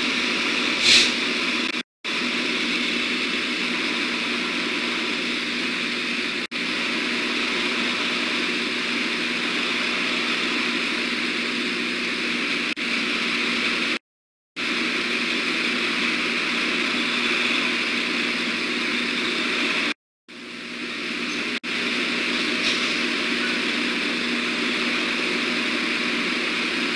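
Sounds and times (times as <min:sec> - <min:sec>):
rushing outdoor noise: 0:00.0 - 0:14.0, 0:14.6 - 0:26.9.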